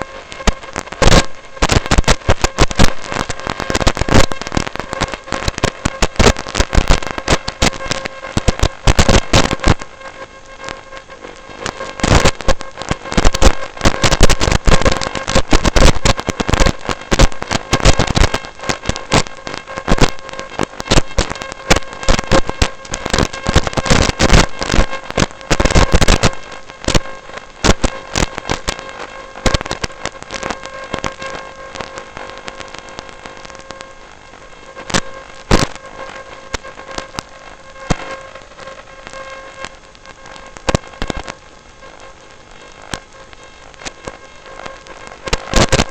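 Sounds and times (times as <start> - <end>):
crackling and clicking: 0.0 - 45.9
steady buzzing hum: 0.0 - 45.9.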